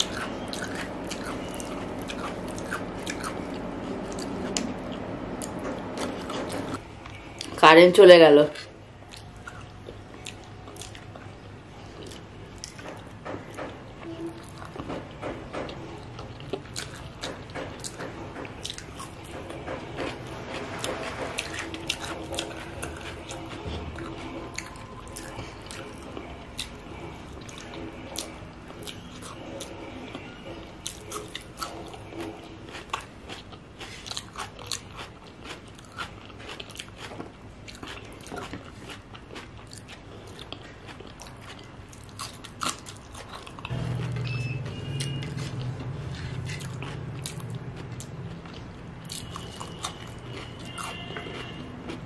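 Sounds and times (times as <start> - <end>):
person chewing food: 0.0 - 7.6, 8.6 - 52.0.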